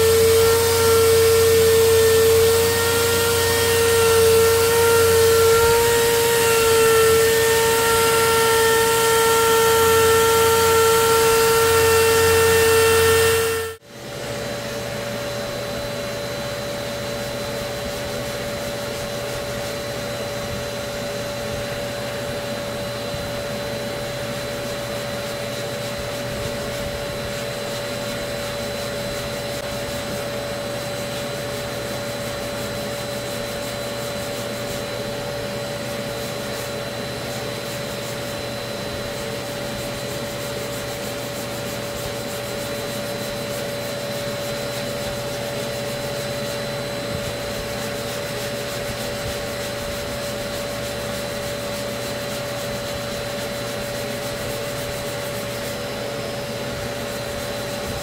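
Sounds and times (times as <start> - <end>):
sandpaper rubbing on filler: 0.0 - 13.8, 16.6 - 58.0
dust extractor vacuum whine: 0.0 - 58.0.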